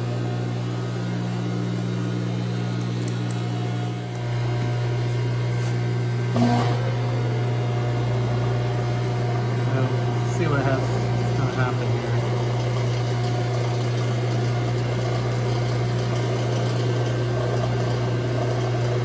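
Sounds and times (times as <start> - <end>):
milling machine motor hum: 0.0 - 19.0.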